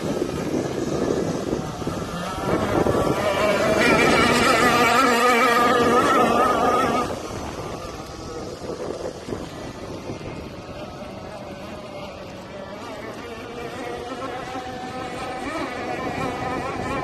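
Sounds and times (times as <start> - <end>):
rc boat motor buzzing: 0.0 - 17.0.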